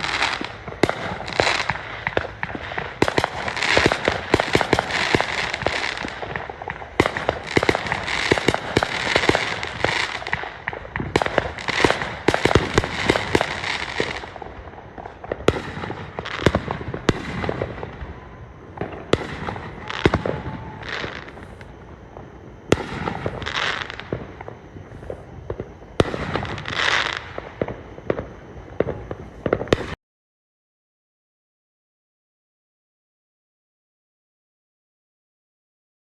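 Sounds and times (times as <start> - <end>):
fireworks bangs: 0.0 - 30.0
fireworks crackle: 0.0 - 30.0.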